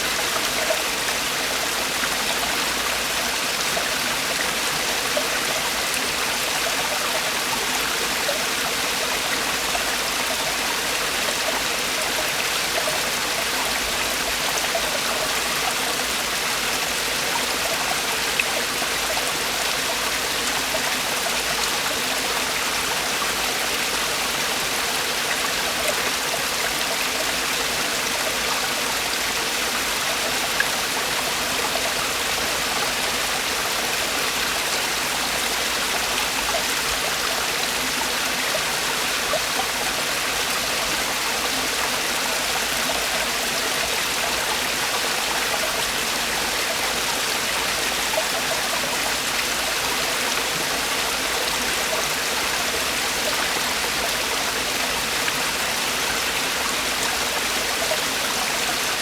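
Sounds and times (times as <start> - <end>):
stream splashing over rocks: 0.0 - 59.0.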